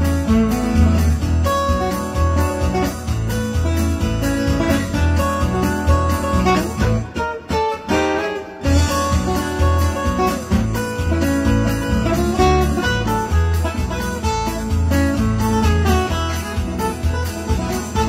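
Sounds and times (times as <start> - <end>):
acoustic guitar plucked: 0.0 - 18.0.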